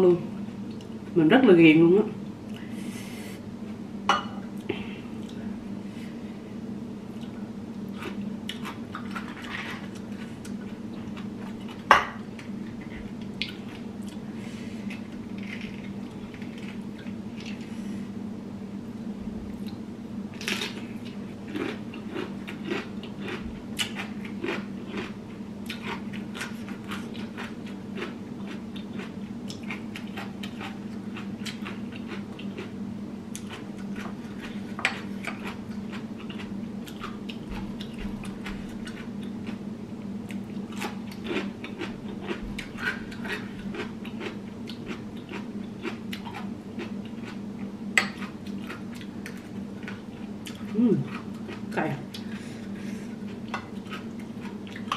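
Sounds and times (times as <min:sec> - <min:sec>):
person chewing vegetables: 0:04.4 - 0:05.5, 0:07.1 - 0:17.7, 0:20.4 - 0:54.9.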